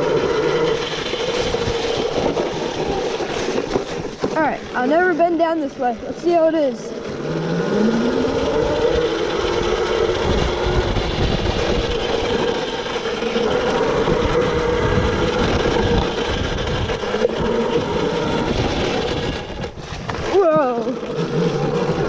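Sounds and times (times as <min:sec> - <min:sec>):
electric motor whining: 0:00.0 - 0:22.0
rough rumbling noise: 0:00.0 - 0:22.0.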